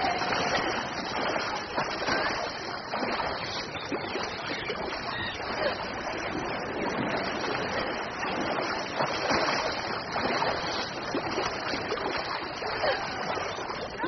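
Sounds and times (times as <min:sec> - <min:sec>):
swimmers splashing water: 0:00.0 - 0:14.0.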